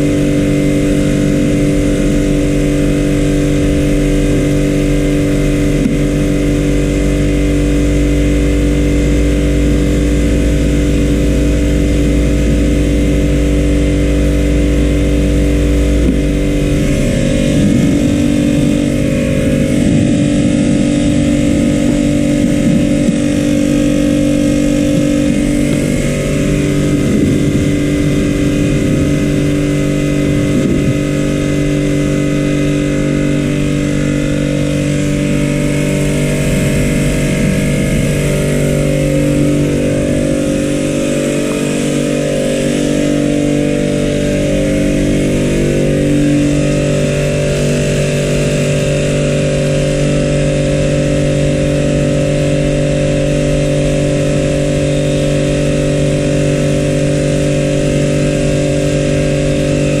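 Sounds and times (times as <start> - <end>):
machine humming: 0.0 - 60.0.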